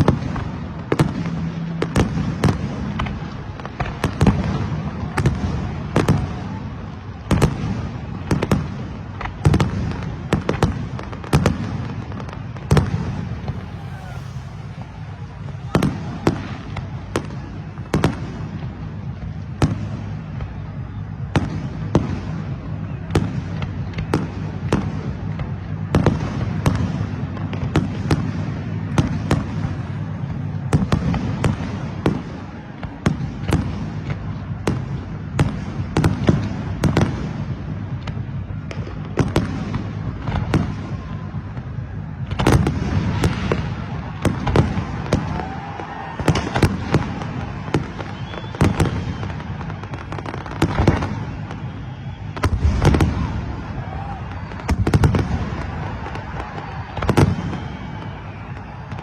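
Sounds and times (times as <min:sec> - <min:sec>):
continuous low rumble: 0:00.0 - 0:59.0
fireworks bangs: 0:00.0 - 0:59.0.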